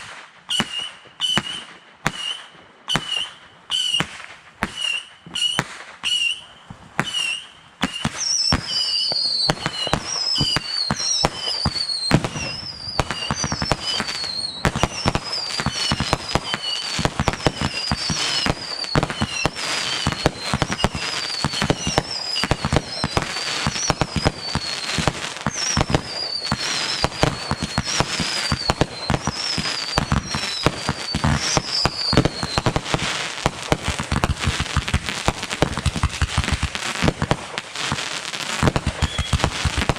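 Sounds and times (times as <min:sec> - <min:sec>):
fireworks bangs and crackles: 0:00.0 - 0:39.9
fireworks whistles: 0:00.0 - 0:39.9.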